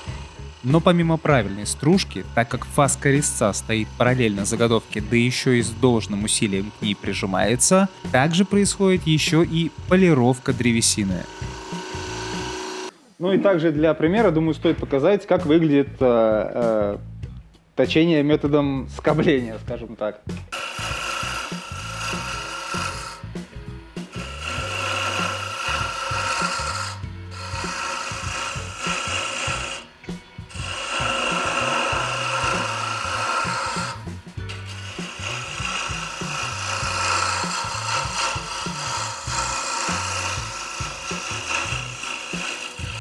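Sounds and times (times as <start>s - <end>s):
lathe tool scraping wood: 0.0s - 12.9s, 20.5s - 43.0s.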